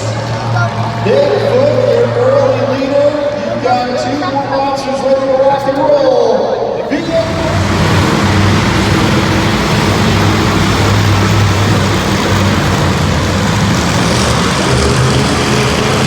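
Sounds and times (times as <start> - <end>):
monster truck engine running: 0.0 - 5.8, 6.9 - 16.0.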